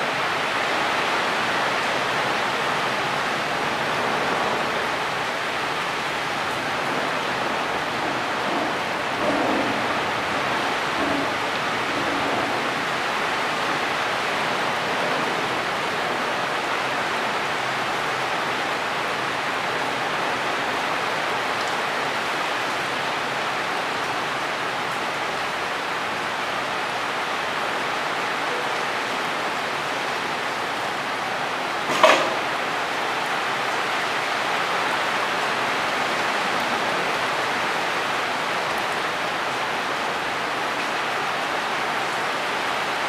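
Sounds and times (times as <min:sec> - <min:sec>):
heavy rain on tree foliage: 0:00.0 - 0:43.0.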